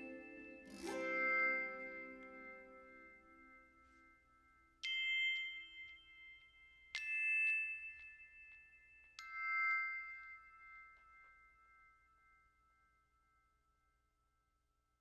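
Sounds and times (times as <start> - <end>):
soft bell-like chimes: 0.0 - 15.0.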